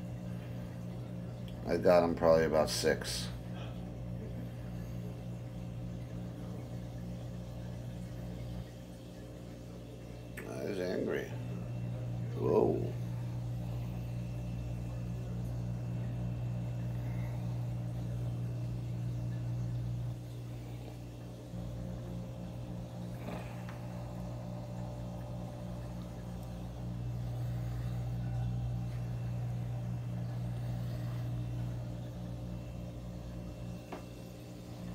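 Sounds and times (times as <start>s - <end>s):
faint thin whine: 0.0s - 34.9s
low mechanical hum: 0.0s - 34.9s.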